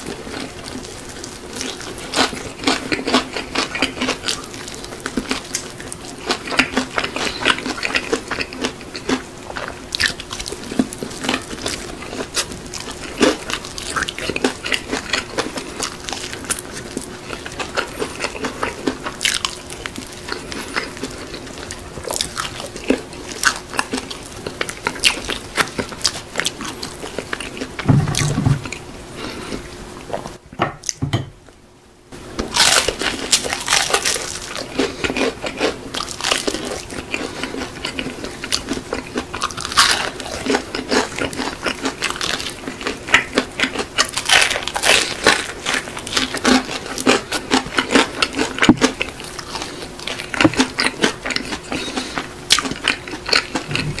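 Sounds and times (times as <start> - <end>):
crunchy biting of fried chicken: 0.0 - 28.3, 32.5 - 54.0
wet chewing: 0.0 - 31.0, 32.5 - 54.0.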